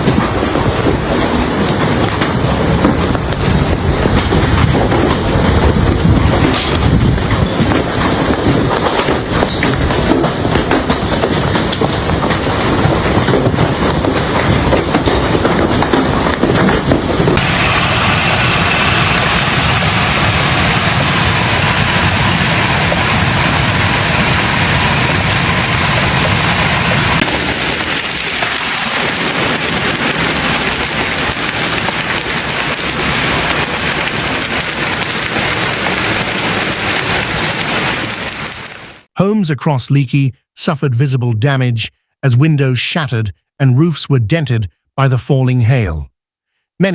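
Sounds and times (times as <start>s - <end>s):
heavy hail clattering: 0.0s - 39.0s.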